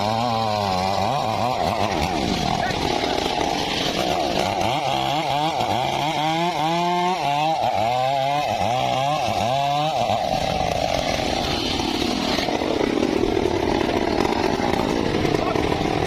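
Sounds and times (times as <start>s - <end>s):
engine-powered saw cutting timber: 0.0s - 16.0s.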